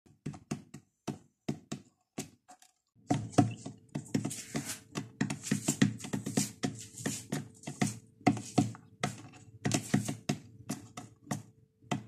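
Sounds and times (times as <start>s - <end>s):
chicks pecking on plastic floor: 0.1s - 12.0s.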